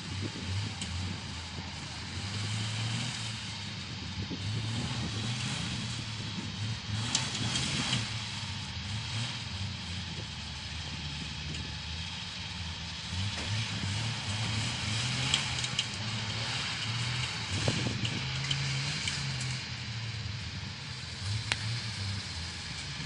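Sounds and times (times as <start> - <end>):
engine running at low revs: 0.0 - 23.0.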